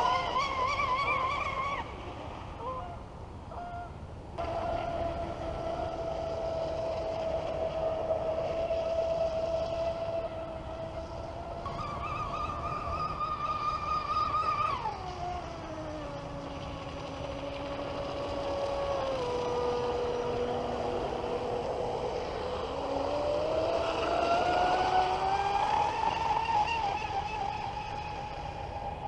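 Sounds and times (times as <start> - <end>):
electric motor whining: 4.4 - 29.0.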